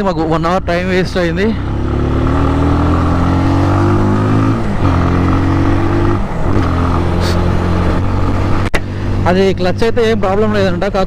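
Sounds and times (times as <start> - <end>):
motorcycle engine accelerating: 0.5 - 10.9.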